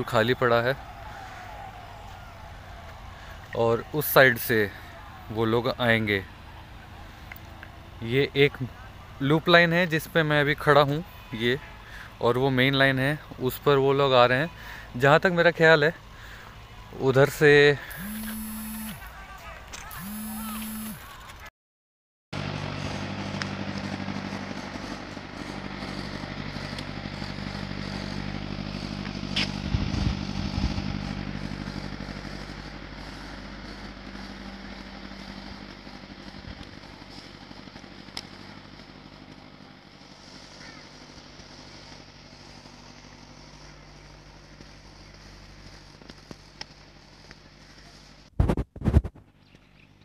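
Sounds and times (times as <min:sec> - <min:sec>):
motorcycle engine running: 0:00.0 - 0:21.3, 0:22.4 - 0:50.0.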